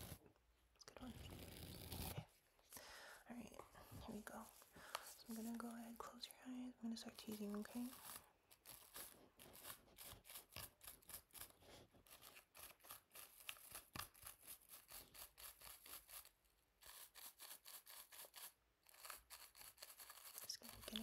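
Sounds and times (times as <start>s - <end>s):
hairbrush rubbing on microphone: 1.1s - 2.3s, 3.8s - 6.3s, 6.9s - 11.5s, 12.1s - 21.0s.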